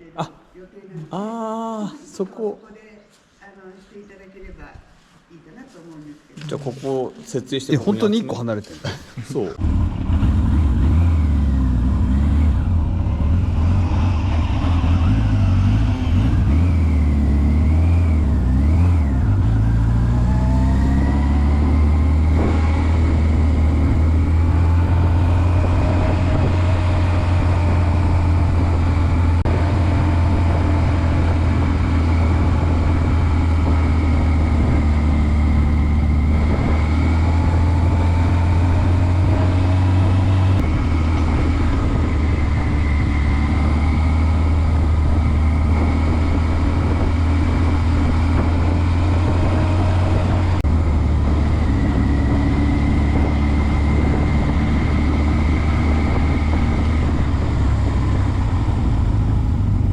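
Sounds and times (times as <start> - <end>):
motorcycle engine running: 9.6 - 59.9.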